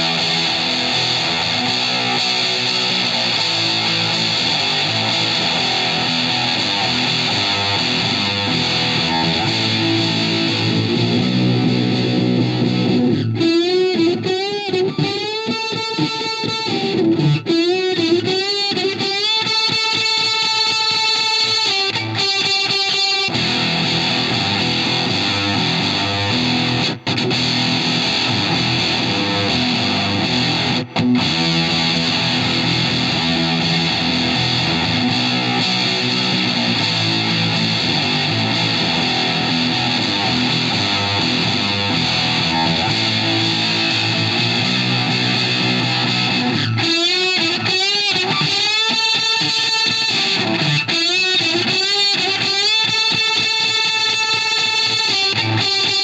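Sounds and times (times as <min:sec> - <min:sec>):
distorted electric guitar: 0:00.0 - 0:56.0.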